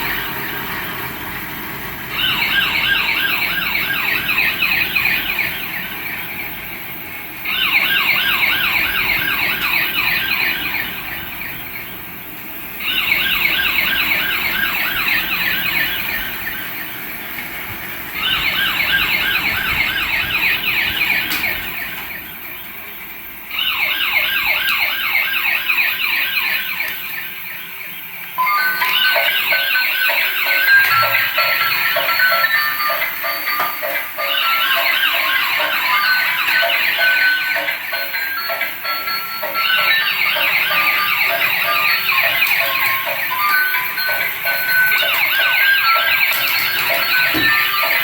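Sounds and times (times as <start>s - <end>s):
toy siren warbling yelp: 2.0s - 22.4s, 23.5s - 48.0s.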